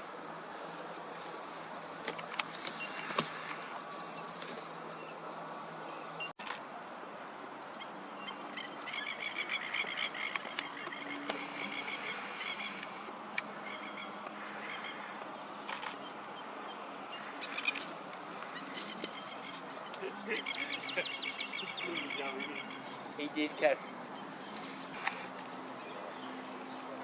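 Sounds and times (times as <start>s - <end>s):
birds chattering calls: 0.0s - 6.3s, 7.7s - 27.0s.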